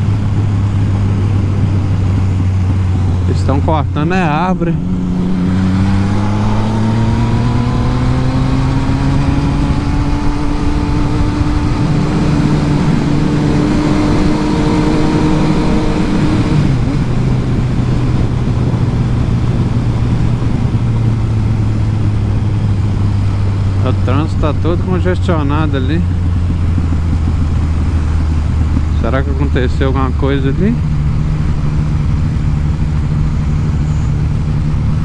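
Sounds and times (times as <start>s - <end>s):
motorcycle engine running: 0.0s - 35.0s
road and wind noise: 0.0s - 35.0s.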